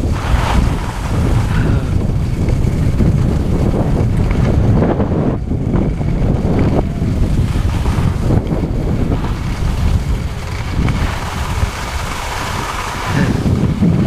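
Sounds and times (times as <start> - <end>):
skis sliding over snow: 0.0 - 14.0
wind buffeting microphone: 0.0 - 14.0.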